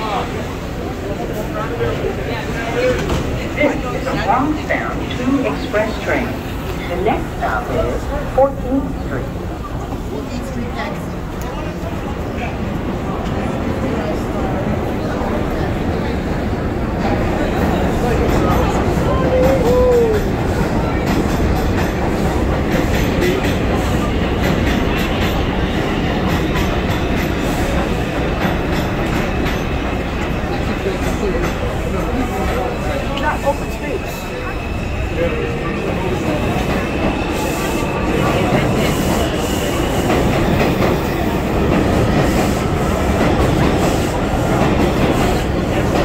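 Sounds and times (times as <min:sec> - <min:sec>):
subway train rumbling: 0:00.0 - 0:46.0.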